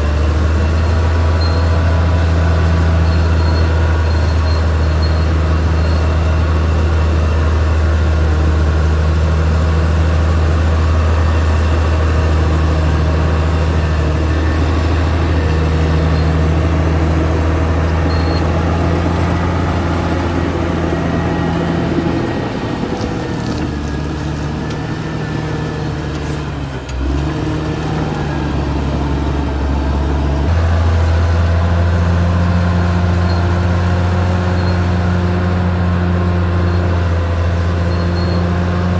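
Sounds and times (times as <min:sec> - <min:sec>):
bulldozer diesel engine drone: 0:00.0 - 0:38.9.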